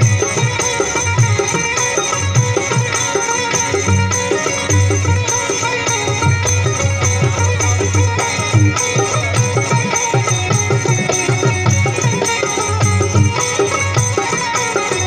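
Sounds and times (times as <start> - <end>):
harmonium folk music: 0.0 - 15.0.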